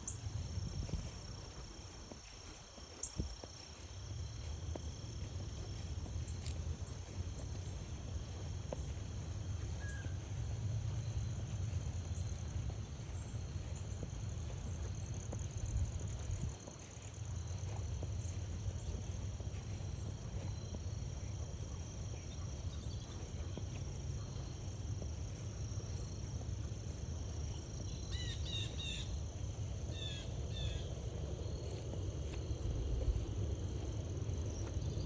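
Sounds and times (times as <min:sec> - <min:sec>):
crickets trilling: 0:00.0 - 0:35.0
low steady rumble: 0:03.2 - 0:35.0.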